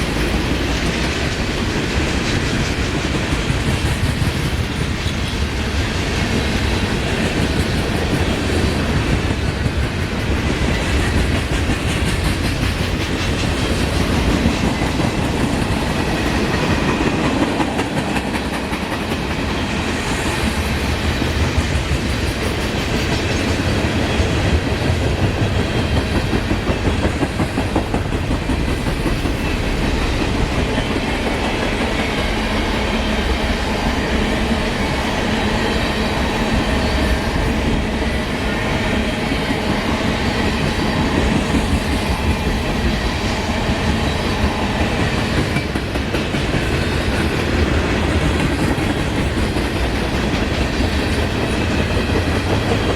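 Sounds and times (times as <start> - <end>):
freight train wheels clattering on rails: 0.0 - 52.9.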